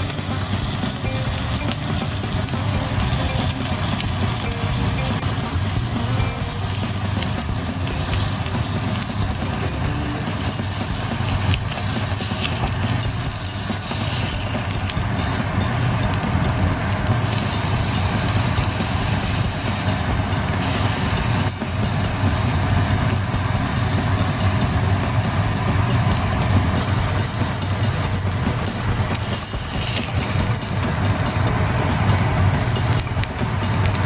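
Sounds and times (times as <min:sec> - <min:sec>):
bacon sizzling on griddle: 0:00.0 - 0:34.0.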